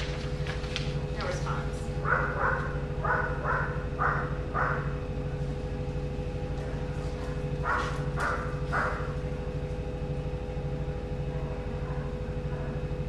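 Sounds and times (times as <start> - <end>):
pulsing mechanical hum: 0.0 - 13.0.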